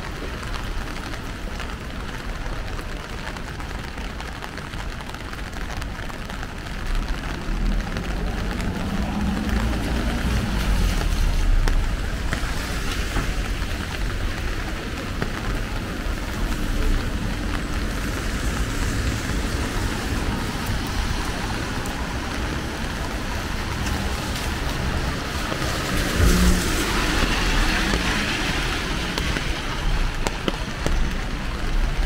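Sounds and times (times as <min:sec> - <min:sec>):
low rumble of road traffic: 0:00.0 - 0:32.0
steady rain falling: 0:00.0 - 0:32.0.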